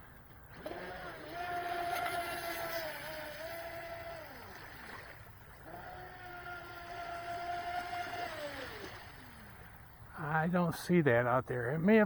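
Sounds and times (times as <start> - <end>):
electric boat motor whining: 0.0 - 10.1.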